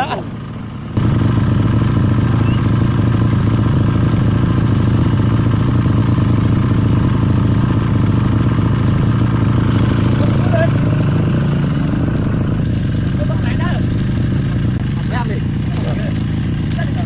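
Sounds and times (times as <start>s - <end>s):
engine humming with clatter: 0.0s - 17.0s.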